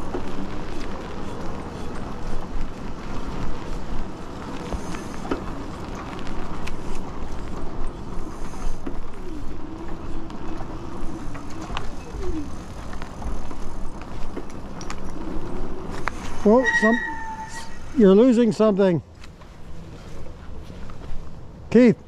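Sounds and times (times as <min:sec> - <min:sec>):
bike ticks and rattles: 0:00.0 - 0:22.0
wind and tyre noise: 0:00.0 - 0:22.0.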